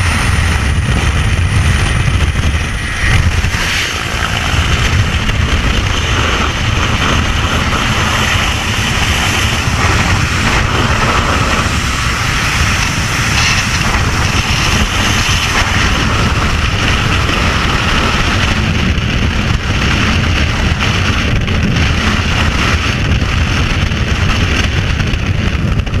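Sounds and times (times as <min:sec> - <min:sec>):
freefall air rushing: 0:00.0 - 0:26.0.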